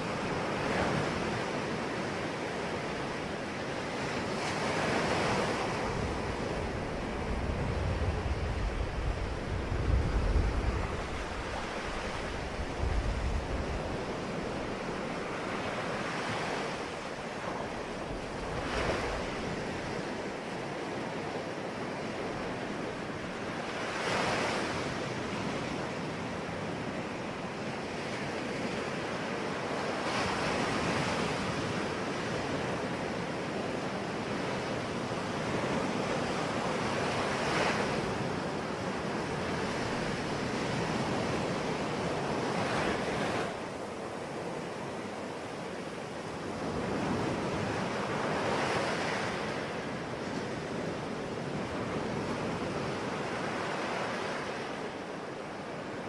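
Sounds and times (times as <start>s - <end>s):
wind rumble on microphone: 0.0s - 54.9s
sea waves breaking on shore: 0.0s - 56.0s.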